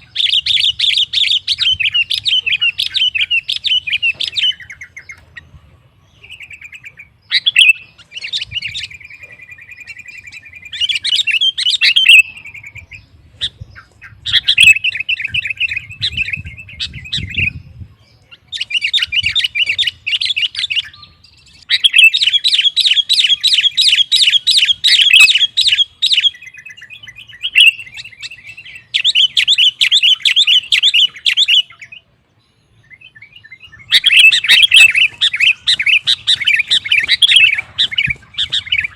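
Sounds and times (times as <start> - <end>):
bulbul chattering chirps: 0.0 - 38.9.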